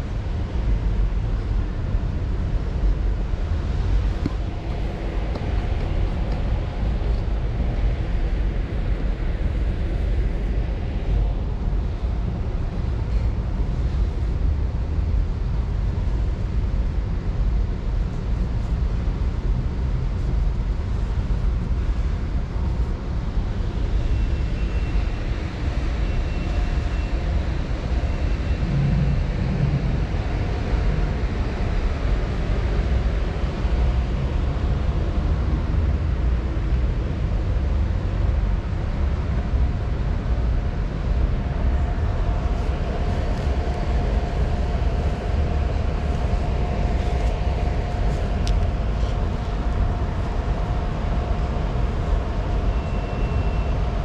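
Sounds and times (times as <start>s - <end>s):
faint constant hum: 0.0s - 54.0s
low rumble of store room noise: 0.0s - 54.0s.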